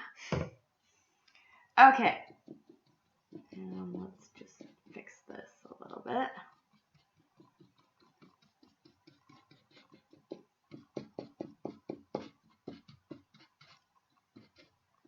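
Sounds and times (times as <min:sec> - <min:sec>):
paintbrush dabbing soft ticks: 0:02.2 - 0:15.0.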